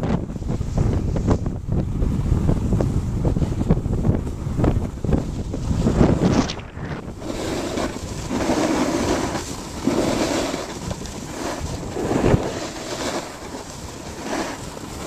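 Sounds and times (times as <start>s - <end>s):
wind rushing over microphone: 0.0s - 15.0s
skis scraping over snow: 0.1s - 15.0s.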